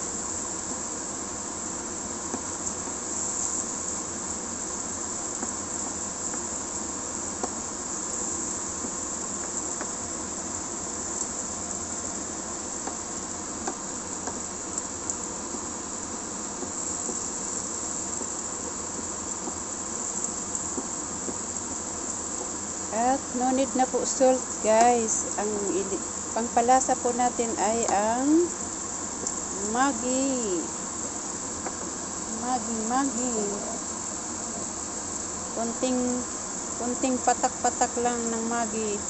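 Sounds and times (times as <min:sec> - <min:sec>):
eggs sizzling in a pan: 0:00.0 - 0:39.0.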